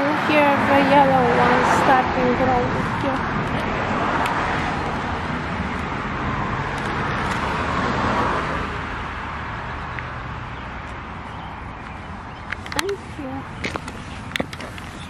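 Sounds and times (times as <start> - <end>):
passing vehicle rush: 0.0 - 15.0.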